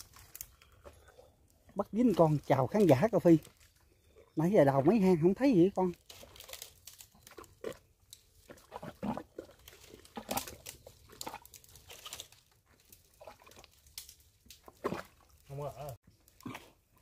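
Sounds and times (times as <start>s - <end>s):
dry leaves and twigs crackling: 0.0s - 16.8s
soft mud squelches: 0.0s - 17.0s.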